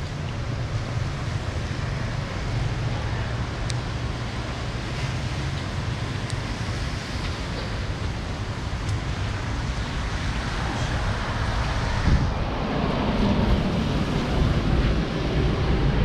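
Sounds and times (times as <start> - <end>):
rain hissing on wet street: 0.0 - 16.0
wind rumble on microphone: 0.0 - 16.0.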